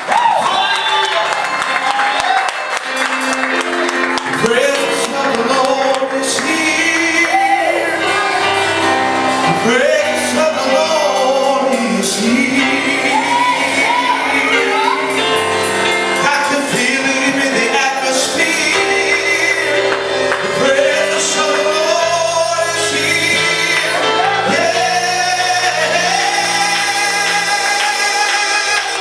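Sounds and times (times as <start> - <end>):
band playing gospel music: 0.0 - 29.0
voices singing: 4.4 - 29.0.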